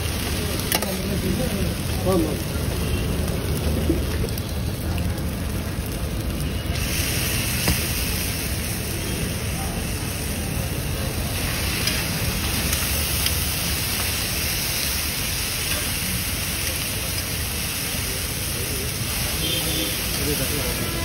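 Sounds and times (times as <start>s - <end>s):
egg sizzling on griddle: 0.0s - 21.0s.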